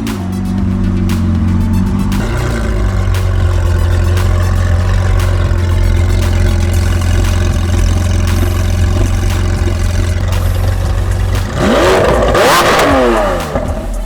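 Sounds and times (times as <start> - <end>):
sports car engine idling and revving: 0.0 - 14.0.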